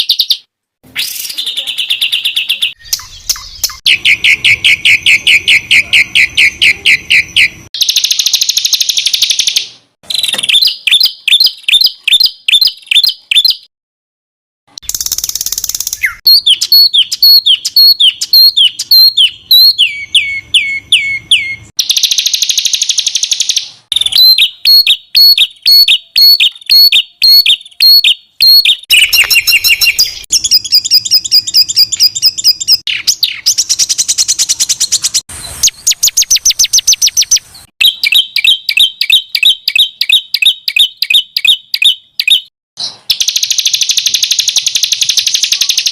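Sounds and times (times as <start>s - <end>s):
songbird song: 0.0s - 13.7s, 14.8s - 45.9s.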